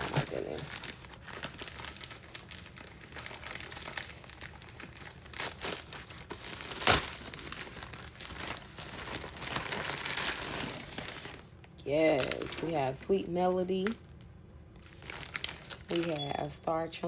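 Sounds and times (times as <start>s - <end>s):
packaging crinkling: 0.0s - 13.0s, 13.7s - 16.5s.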